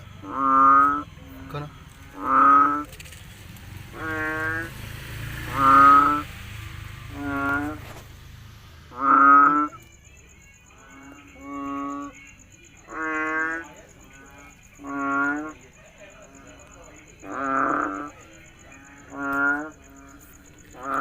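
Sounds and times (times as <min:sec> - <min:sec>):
frog calling: 0:00.0 - 0:21.0.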